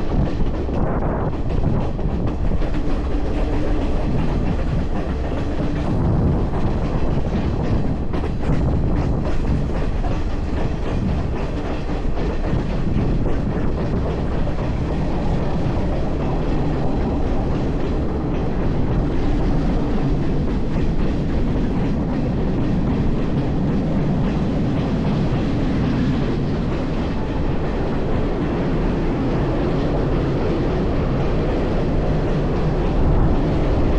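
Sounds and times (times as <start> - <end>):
train rumbling on rails: 0.0 - 33.9.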